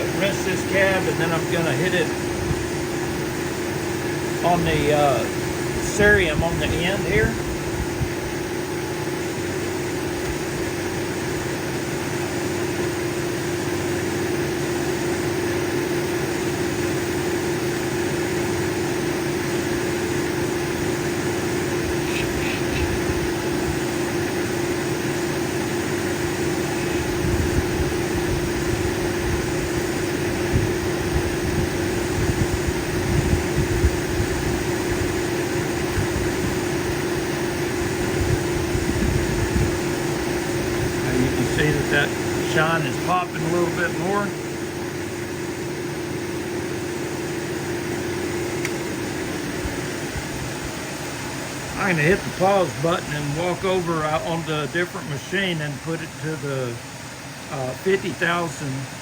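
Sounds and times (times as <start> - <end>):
polishing machine humming: 0.0 - 59.0.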